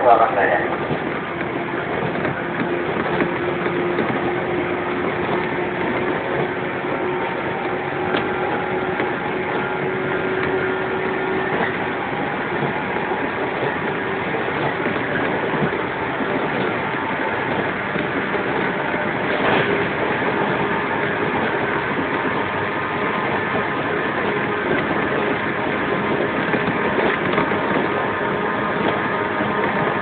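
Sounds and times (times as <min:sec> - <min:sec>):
train motor and gear hum: 0:00.0 - 0:30.0
train wheels rumbling on rail: 0:00.0 - 0:30.0.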